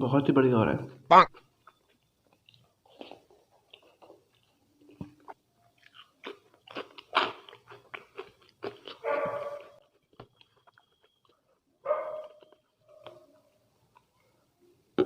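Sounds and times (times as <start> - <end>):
chewing potato chips: 1.4 - 14.3.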